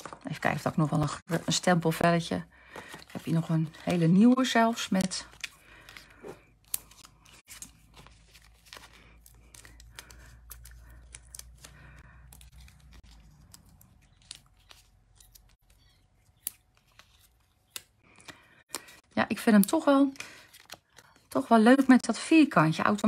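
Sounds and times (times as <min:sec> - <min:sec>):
paper crackling and ticking: 0:02.7 - 0:23.0.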